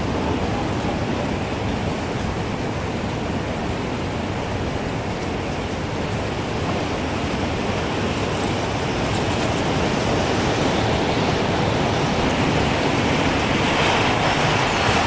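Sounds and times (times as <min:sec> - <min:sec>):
gusting wind: 0:00.0 - 0:15.0.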